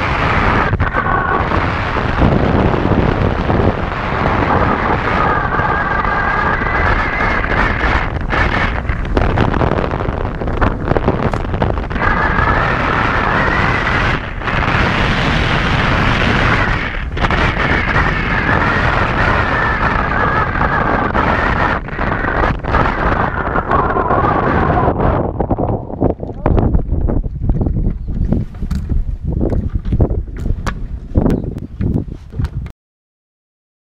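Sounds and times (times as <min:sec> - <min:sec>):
wind roar over microphone: 0:00.0 - 0:32.7.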